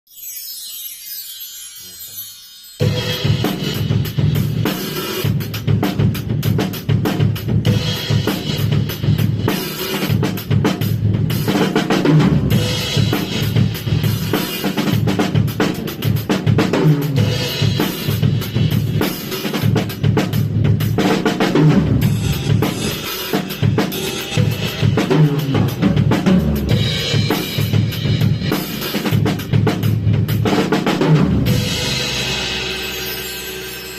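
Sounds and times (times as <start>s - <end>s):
drum kit beat: 2.8s - 33.9s.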